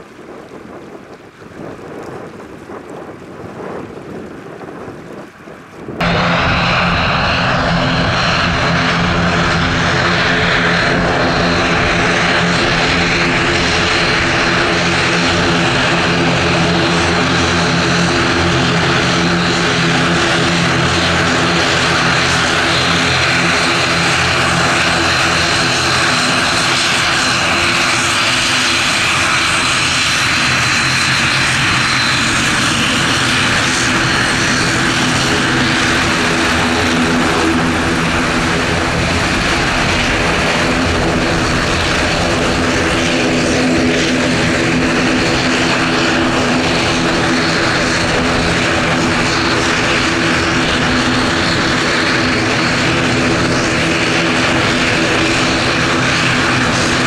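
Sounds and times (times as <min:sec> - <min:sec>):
propeller hum: 0:00.0 - 0:57.0
wind buffeting microphone: 0:00.0 - 0:57.0
turboprop engines running: 0:01.6 - 0:57.0.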